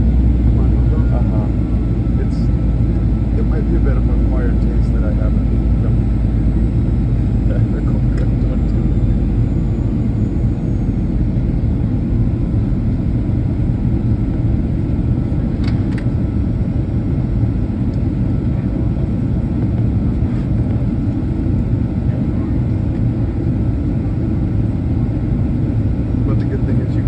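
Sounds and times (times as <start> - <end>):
jet engine cabin rumble: 0.0 - 27.0.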